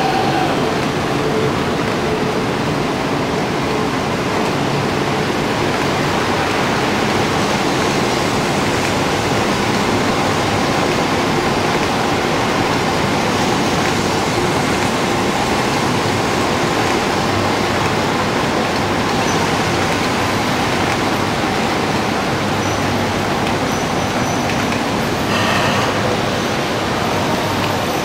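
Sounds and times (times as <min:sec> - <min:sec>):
train rushing past: 0:00.0 - 0:28.0.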